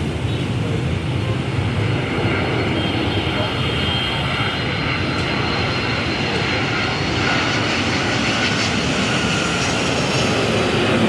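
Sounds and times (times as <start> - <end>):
airliner engines running: 0.0 - 11.0.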